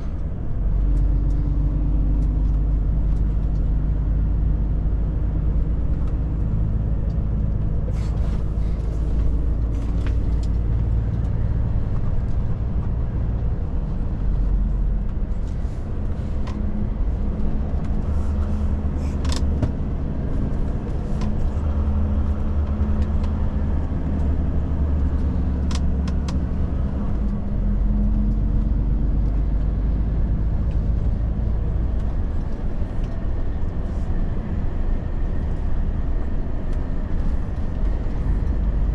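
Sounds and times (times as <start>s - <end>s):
truck diesel engine droning: 0.0s - 38.9s
tyre and road noise: 0.0s - 38.9s.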